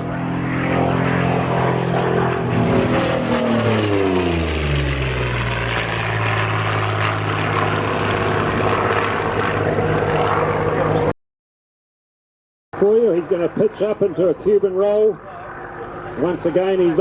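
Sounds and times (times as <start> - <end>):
propeller plane engine passing: 0.0 - 11.2, 12.8 - 17.0.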